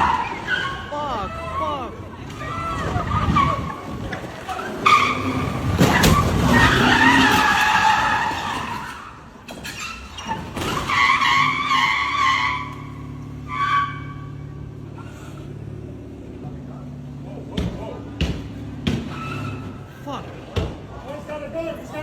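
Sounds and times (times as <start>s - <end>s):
car tyres squealing: 0.0s - 22.0s.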